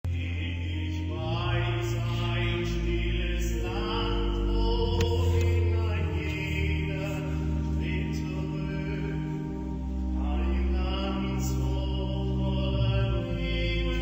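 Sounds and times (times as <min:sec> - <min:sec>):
men's choir singing sustained chords: 0:00.1 - 0:14.0.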